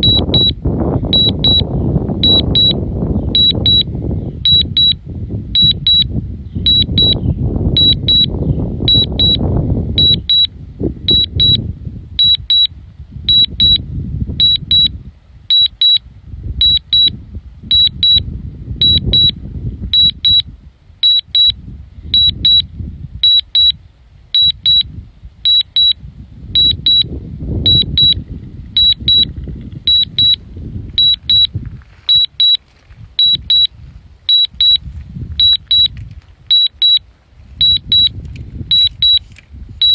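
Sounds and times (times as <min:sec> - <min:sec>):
high-pitched remote controller beeps: 0:00.0 - 0:11.6, 0:12.2 - 0:12.7, 0:13.3 - 0:13.8, 0:14.4 - 0:14.9, 0:15.5 - 0:16.0, 0:16.6 - 0:23.8, 0:24.4 - 0:26.0, 0:26.6 - 0:30.4, 0:31.0 - 0:31.5, 0:32.1 - 0:32.6, 0:33.2 - 0:33.7, 0:34.3 - 0:34.8, 0:35.4 - 0:37.0, 0:37.6 - 0:39.9
wind buffeting microphone: 0:00.0 - 0:39.9.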